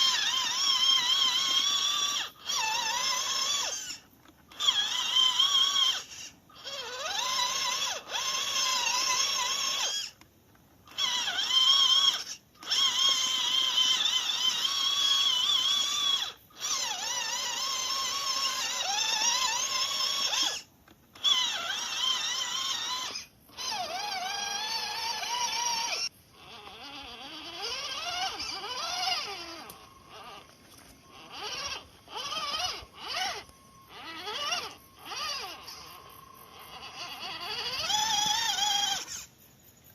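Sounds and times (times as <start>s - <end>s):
toy car electric motor whining: 0.0s - 39.9s.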